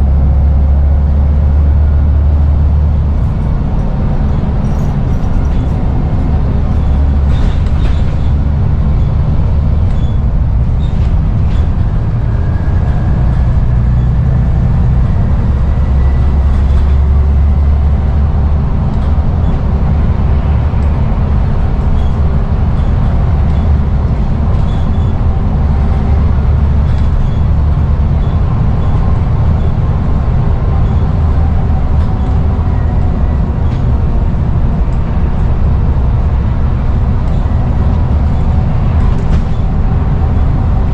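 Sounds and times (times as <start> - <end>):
bus diesel engine drone: 0.0 - 40.9.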